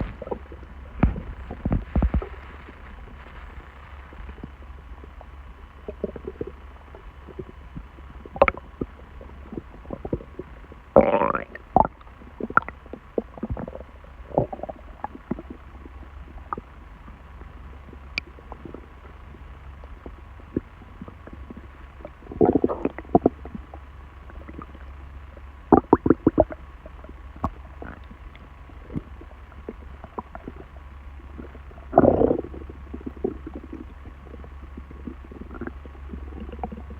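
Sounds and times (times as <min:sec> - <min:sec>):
stomach rumbling and gurgling: 0:00.0 - 0:36.9.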